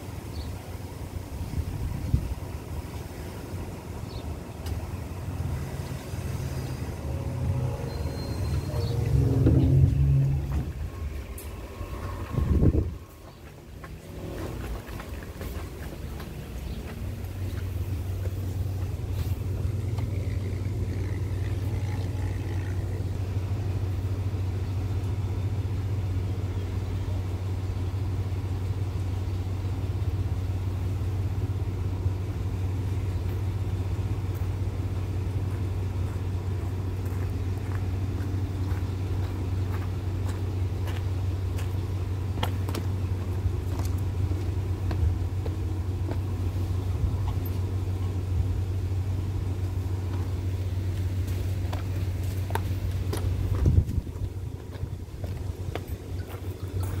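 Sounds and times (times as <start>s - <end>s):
diesel train engine idling: 0.0s - 57.0s.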